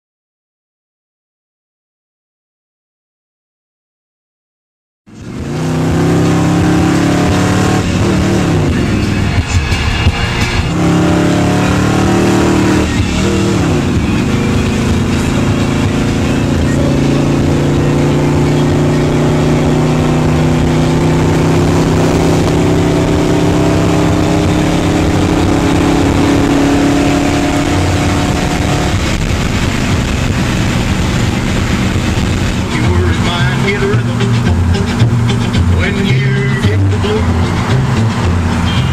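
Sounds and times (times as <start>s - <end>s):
car engine accelerating: 5.1s - 38.9s.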